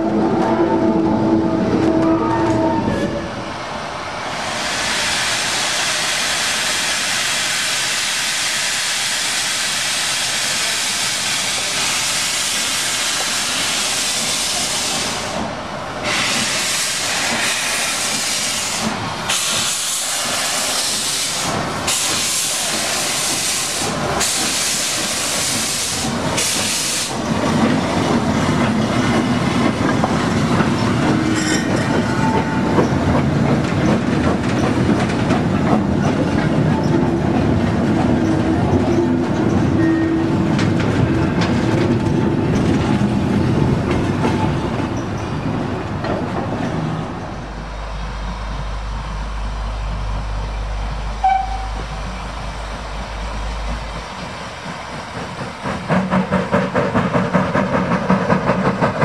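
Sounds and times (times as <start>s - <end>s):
steam locomotive hissing: 3.0s - 59.0s.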